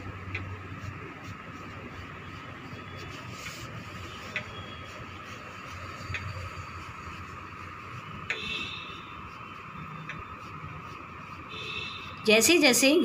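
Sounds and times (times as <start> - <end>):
paintbrush rubbing on fabric: 0.0 - 13.0
steady background hum: 0.0 - 13.0.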